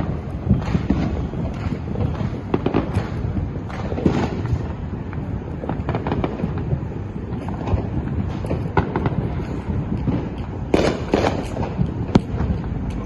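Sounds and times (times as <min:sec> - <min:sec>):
fireworks bangs and pops: 0:00.0 - 0:13.0
steady low rumble: 0:00.0 - 0:13.0.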